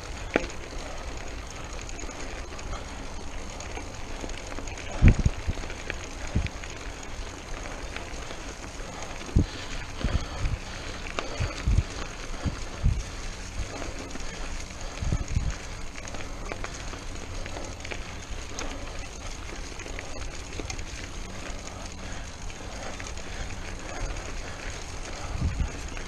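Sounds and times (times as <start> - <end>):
mountain bike rolling on trail: 0.0 - 26.0.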